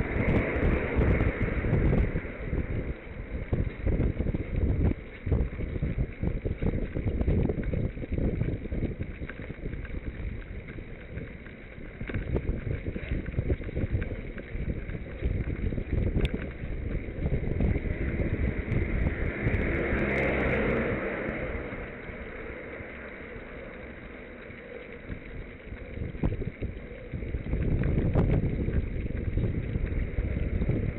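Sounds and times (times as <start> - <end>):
rushing noise of bicycle ride: 0.0 - 30.9
wind buffeting microphone: 0.0 - 30.9.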